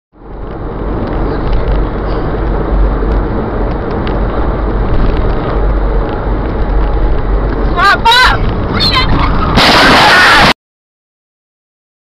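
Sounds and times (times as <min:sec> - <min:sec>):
vehicle road and engine rumble: 0:00.2 - 0:10.6.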